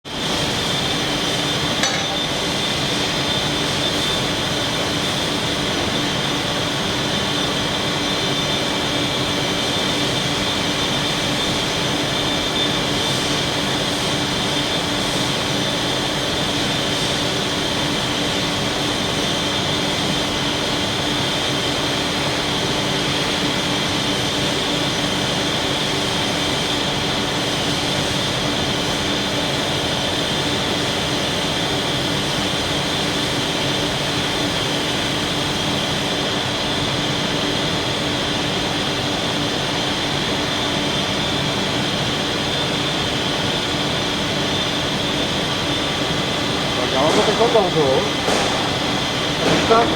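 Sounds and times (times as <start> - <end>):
lathe mechanical hum and whine: 0.1 - 49.9.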